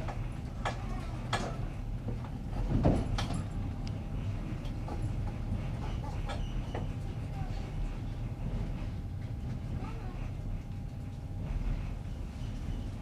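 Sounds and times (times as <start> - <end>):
train carriage rumbling: 0.0 - 13.0.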